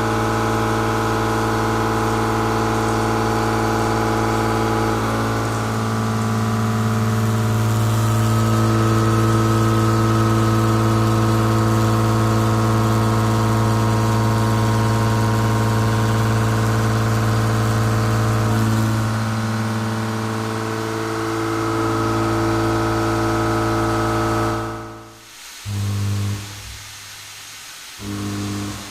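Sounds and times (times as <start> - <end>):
milling machine humming: 0.0 - 27.0, 28.0 - 28.9.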